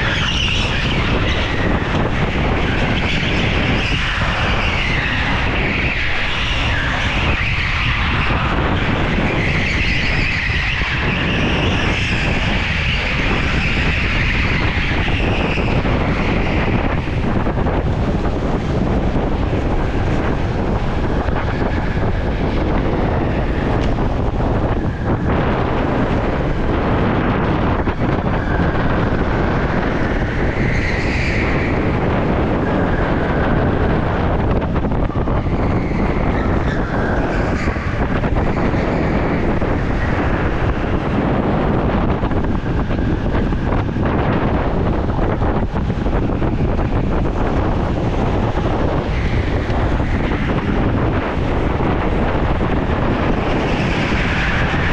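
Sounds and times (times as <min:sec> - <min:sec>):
go-kart drivetrain and tyre noise: 0:00.0 - 0:54.9
high engine whine: 0:00.0 - 0:54.9
wind buffeting microphone: 0:00.0 - 0:54.9.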